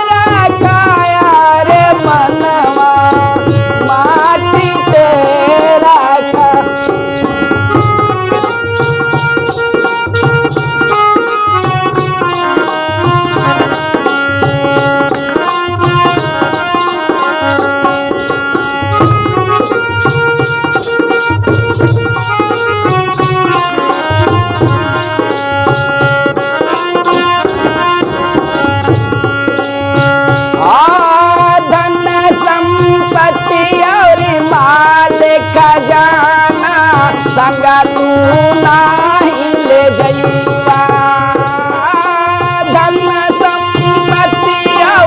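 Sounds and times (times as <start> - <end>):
hand drums: 0.0 - 45.0.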